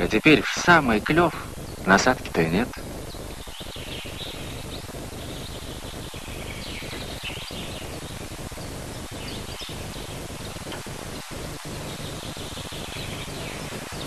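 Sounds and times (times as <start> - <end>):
small birds chirping: 0.0 - 14.0
steady hiss: 0.0 - 14.0.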